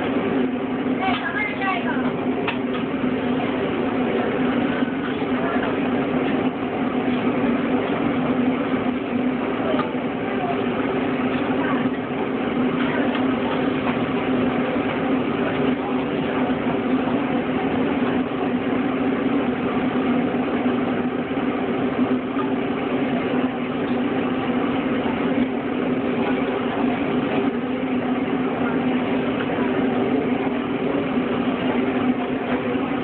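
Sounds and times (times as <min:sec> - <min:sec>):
mechanical hum: 0:00.0 - 0:33.0
noisy background: 0:00.0 - 0:33.0.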